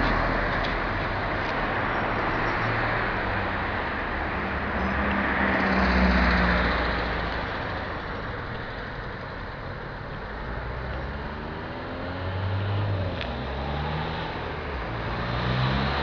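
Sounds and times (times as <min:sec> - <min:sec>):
cars driving by: 0:00.0 - 0:16.0
steady roadway noise: 0:00.0 - 0:16.0.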